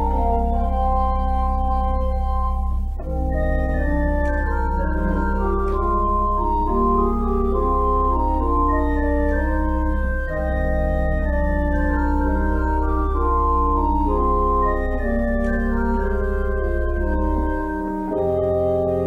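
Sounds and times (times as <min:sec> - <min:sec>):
church organ chords: 0:00.0 - 0:19.0.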